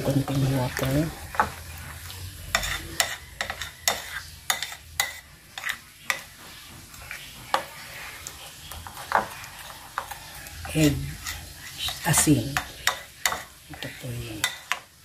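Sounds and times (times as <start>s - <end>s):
spoon scraping bowl: 0.0s - 15.0s
spoon stirring batter: 0.0s - 15.0s.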